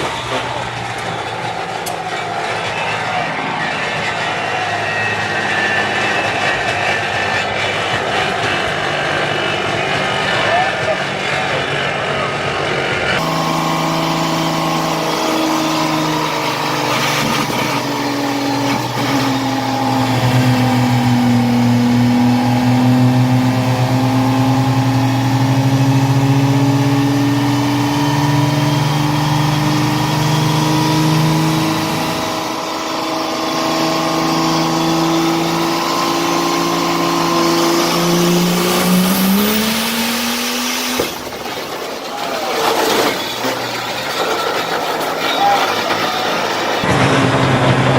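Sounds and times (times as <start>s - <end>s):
diesel engine running under load: 0.0s - 47.9s.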